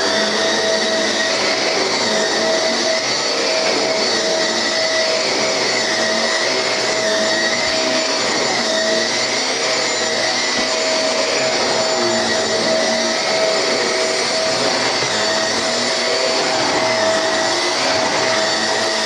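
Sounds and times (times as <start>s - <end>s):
vacuum cleaner motor whining: 0.0s - 19.0s.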